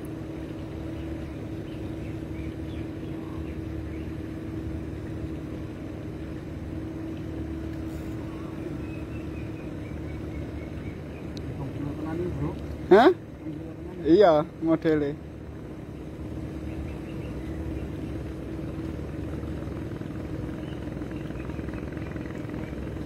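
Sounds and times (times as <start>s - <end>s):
engine humming steadily: 0.0s - 23.0s.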